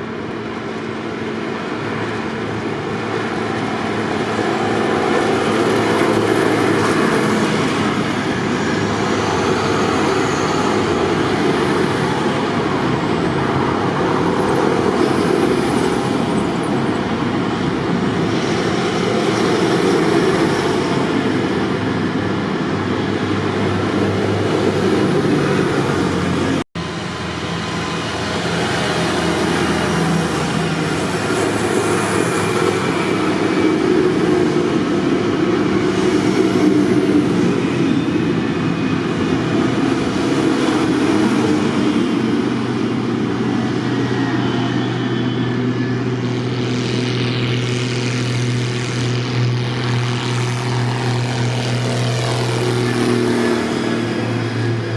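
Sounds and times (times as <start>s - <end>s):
tractor engines running: 0.0s - 54.9s.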